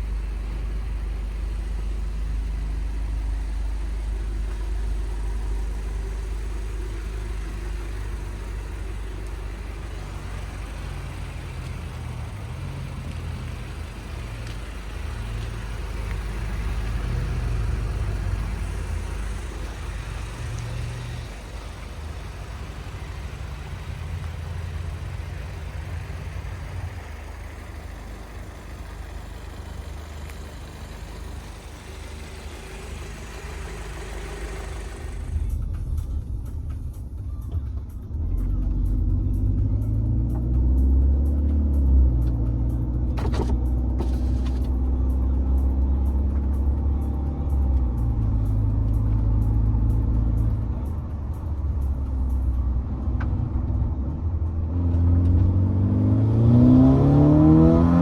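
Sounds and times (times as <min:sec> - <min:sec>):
car engine and exhaust revving: 0:00.0 - 0:58.0.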